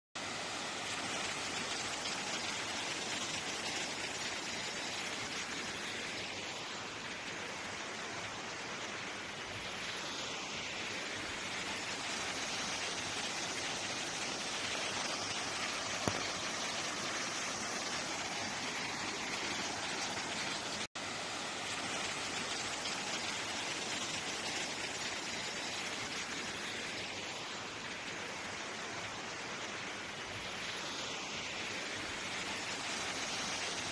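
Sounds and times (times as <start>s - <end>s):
rushing mountain stream: 0.2s - 33.9s.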